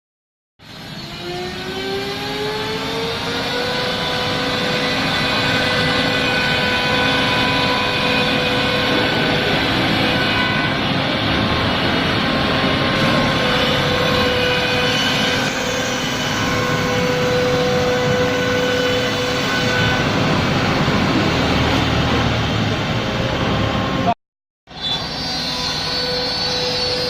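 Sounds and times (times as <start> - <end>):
router spindle whine: 0.7 - 20.4, 24.8 - 27.0.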